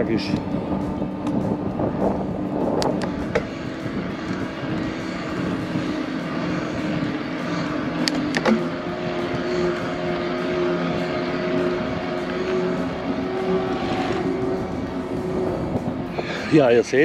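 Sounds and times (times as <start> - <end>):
electric bike motor whining: 0.0 - 17.0
wind noise: 0.0 - 17.0.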